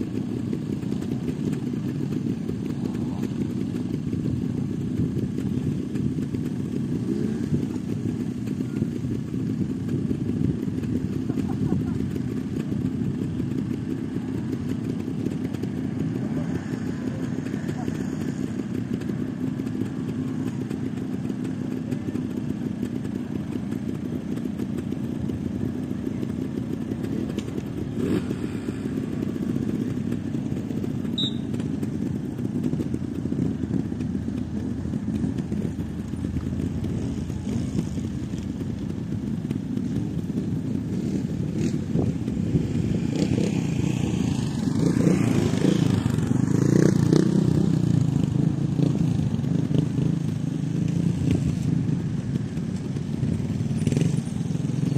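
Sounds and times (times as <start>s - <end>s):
motorcycle engines idling and revving: 0.0s - 54.9s.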